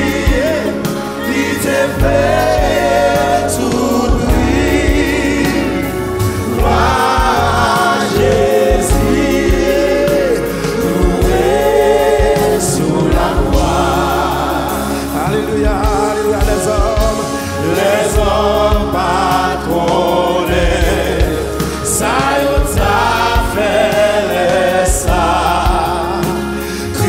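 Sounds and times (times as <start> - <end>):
lead singer with backing singers: 0.0 - 27.0
low instrumental accompaniment: 0.0 - 27.0.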